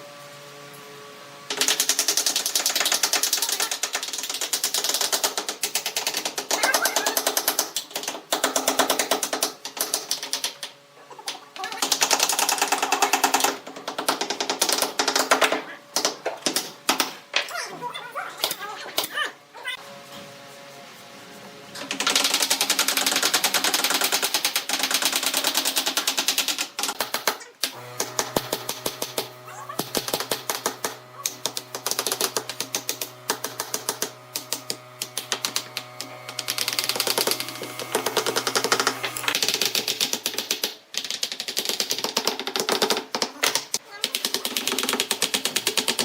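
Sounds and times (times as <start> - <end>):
rapid sharp clicks and taps: 1.5 - 17.2, 21.8 - 46.0.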